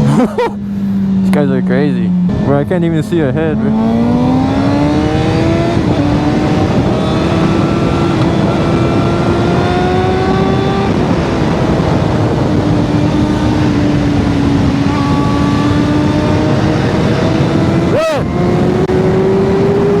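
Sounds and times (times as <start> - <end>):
motorcycle engine without exhaust: 0.0 - 20.0
wind rush on microphone: 2.2 - 20.0.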